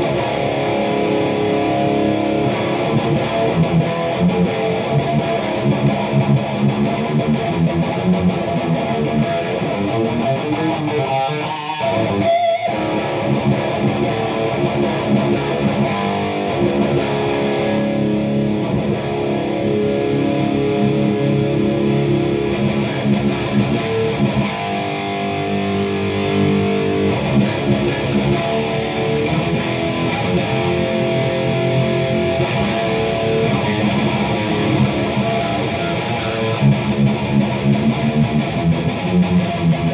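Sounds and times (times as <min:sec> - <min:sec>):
electric guitar chords and riffs: 0:00.0 - 0:39.9.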